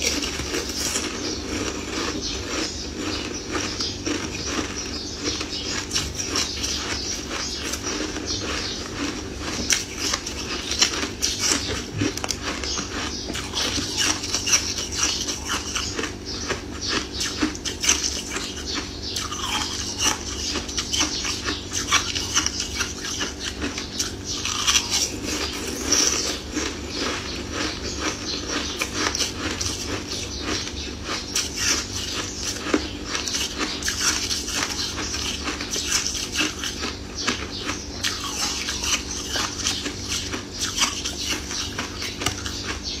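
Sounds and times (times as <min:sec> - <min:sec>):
chewing and crunching hard candy: 0:00.0 - 0:43.0
steady low hum: 0:00.0 - 0:43.0.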